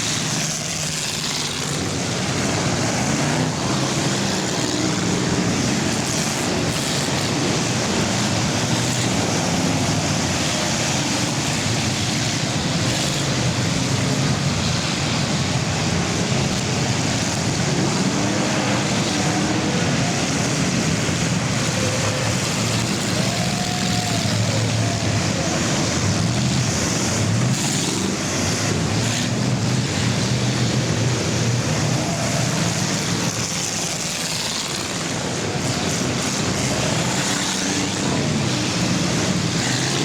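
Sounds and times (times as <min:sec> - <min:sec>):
car passing: 0:00.0 - 0:40.0
racing car engines: 0:00.0 - 0:40.0.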